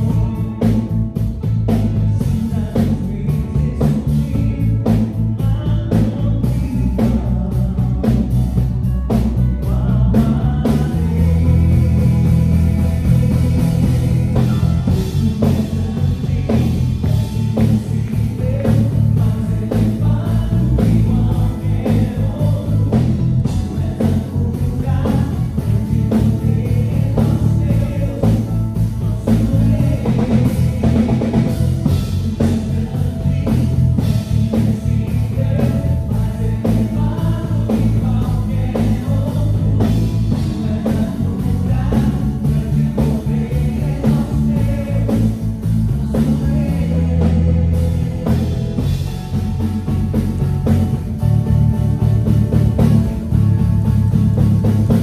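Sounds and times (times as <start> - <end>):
person singing: 0.0 - 50.8
band playing worship song: 0.0 - 55.0
drums and cymbals: 0.0 - 55.0.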